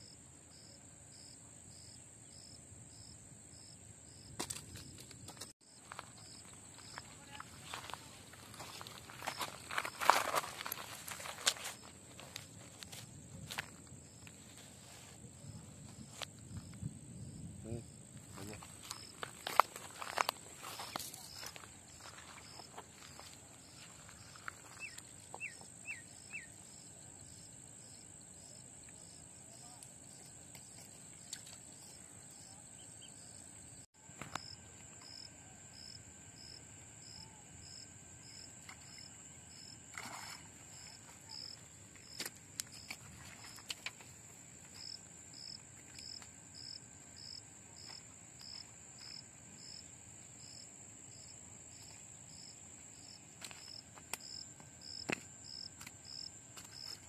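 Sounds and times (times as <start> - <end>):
insects droning and chirping: 0.0 - 57.0.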